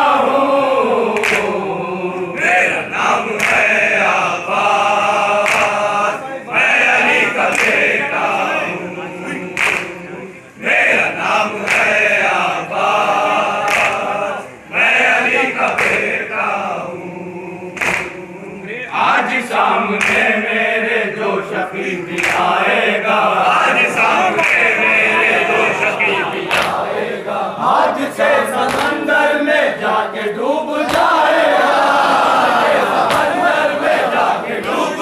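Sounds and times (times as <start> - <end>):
men singing in unison: 0.0 - 35.0.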